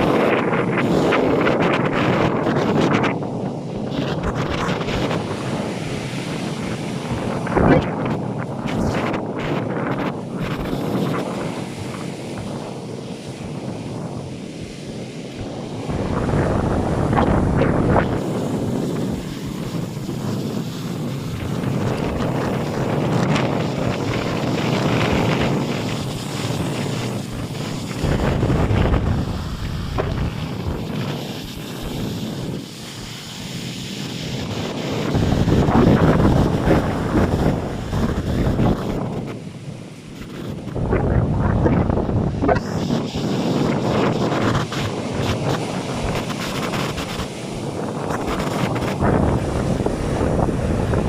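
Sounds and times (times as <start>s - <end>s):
heavy waves breaking: 0.0s - 51.0s
wind buffeting microphone: 0.0s - 51.0s.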